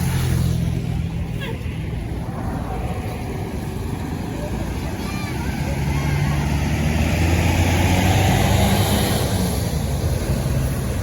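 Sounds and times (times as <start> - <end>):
bus diesel engine driving past: 0.0 - 11.0.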